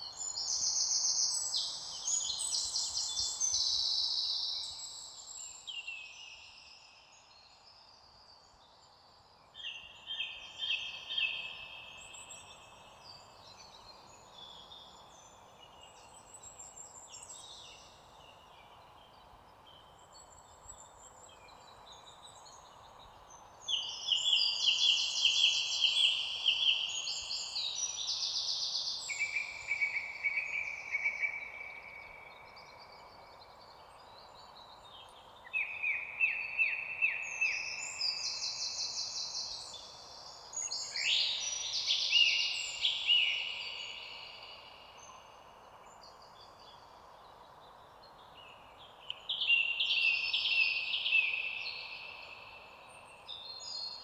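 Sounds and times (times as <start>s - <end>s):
faint steady background hiss: 0.0s - 54.0s
songbirds singing: 0.0s - 54.0s.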